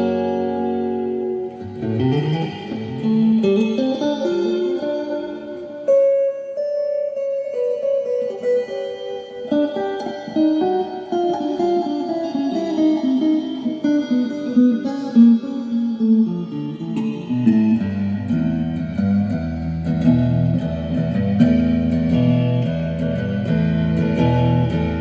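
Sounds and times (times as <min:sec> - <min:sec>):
guitar plucking melodic line: 0:00.0 - 0:25.0.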